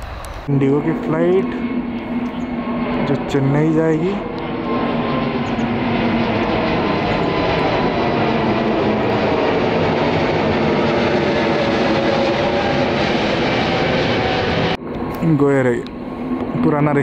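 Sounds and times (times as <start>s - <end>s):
jet engines climbing overhead: 0.0s - 17.0s.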